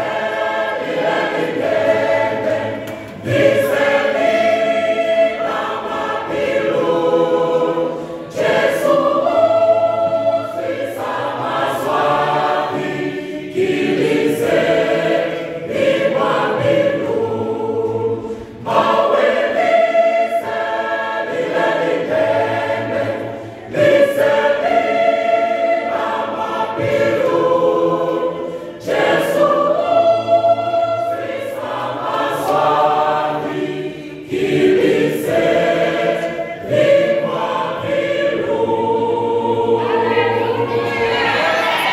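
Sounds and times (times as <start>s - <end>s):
mixed choir singing gospel: 0.0s - 41.9s.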